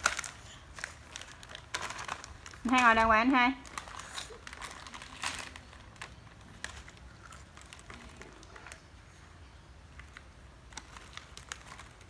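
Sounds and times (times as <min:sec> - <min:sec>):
low room hum: 0:00.0 - 0:12.0
plastic snack packet crinkling: 0:00.0 - 0:12.0.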